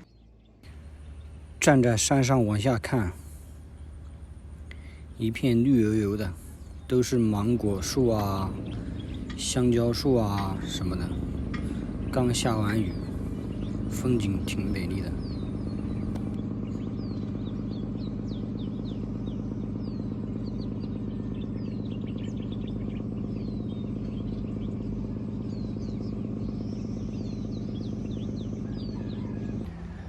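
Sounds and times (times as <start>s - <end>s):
birds chirping: 0.0s - 30.0s
engine humming: 0.0s - 30.0s.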